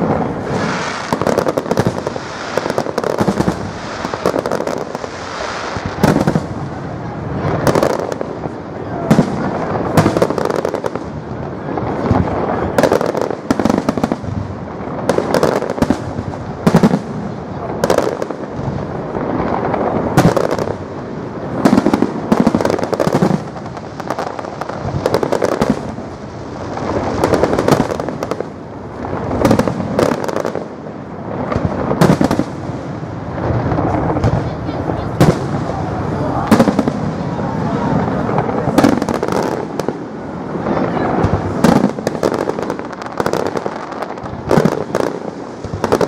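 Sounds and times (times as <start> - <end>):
fireworks bursting: 0.0 - 46.0.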